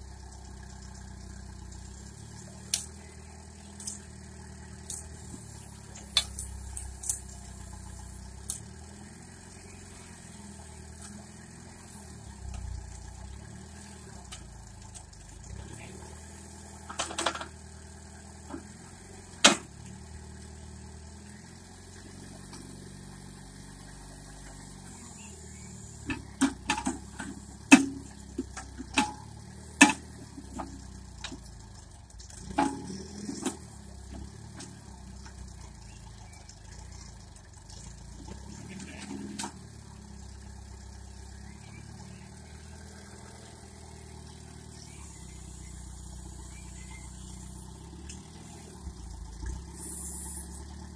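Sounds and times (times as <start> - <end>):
tractor engine idling: 0.0 - 50.9.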